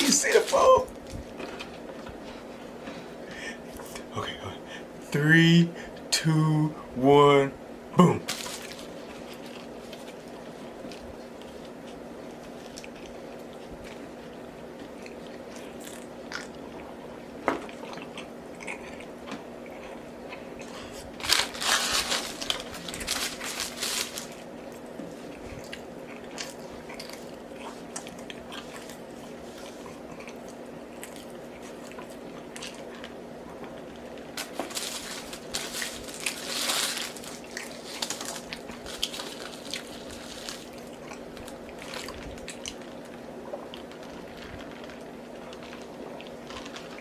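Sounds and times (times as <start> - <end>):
steady low hum: 0.0 - 47.0
person chewing food: 8.2 - 47.0.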